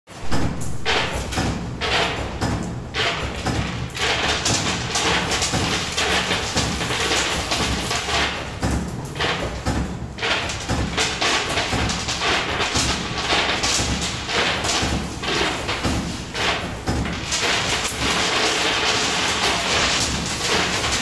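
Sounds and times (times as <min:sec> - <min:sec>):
arcade machine noise and clatter: 0:00.1 - 0:21.0.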